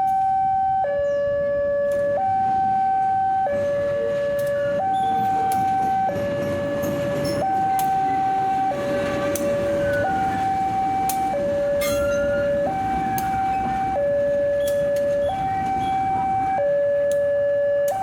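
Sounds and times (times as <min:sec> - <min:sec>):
two-tone level crossing alarm: 0:00.0 - 0:18.0.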